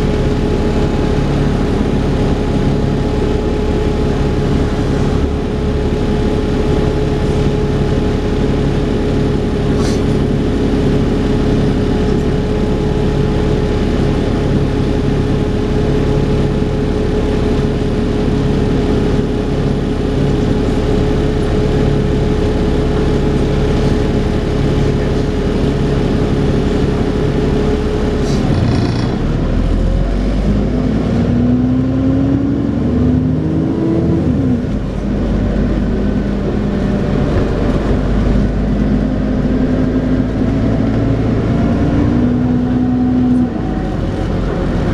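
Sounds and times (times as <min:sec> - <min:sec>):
bus engine rumbling: 0:00.0 - 0:44.9
bus whine: 0:00.0 - 0:44.9.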